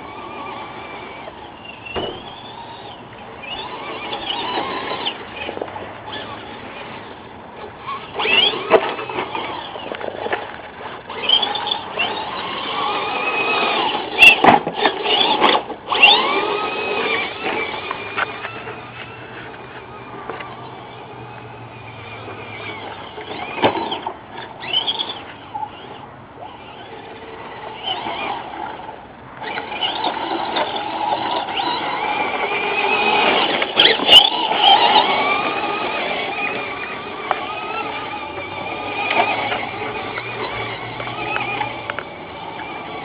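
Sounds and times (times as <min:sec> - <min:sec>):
rc car motor whining: 0:00.0 - 0:43.0.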